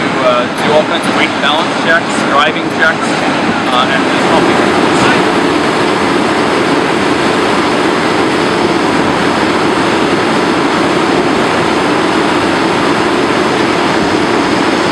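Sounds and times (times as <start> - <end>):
diesel engine driving pump: 0.0 - 14.9
heavy water stream rushing: 0.0 - 14.9.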